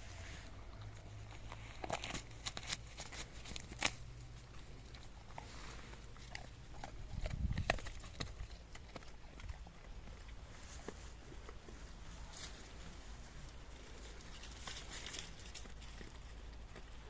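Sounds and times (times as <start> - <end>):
dog crunching corn: 0.6 - 17.0.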